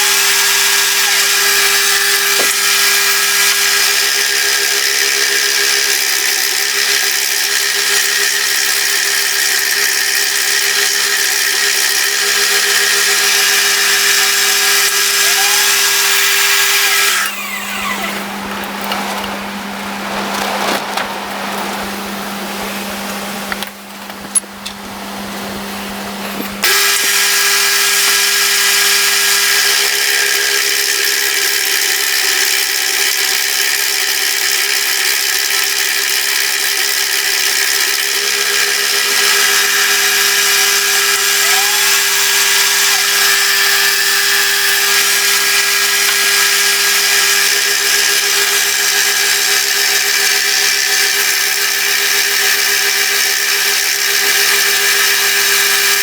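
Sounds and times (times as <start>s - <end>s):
milling machine cutting: 0.0s - 56.0s.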